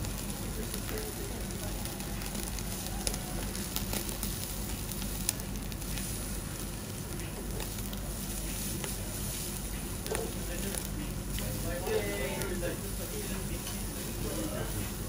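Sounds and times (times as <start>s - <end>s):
meat sizzling on grill: 0.0s - 15.0s.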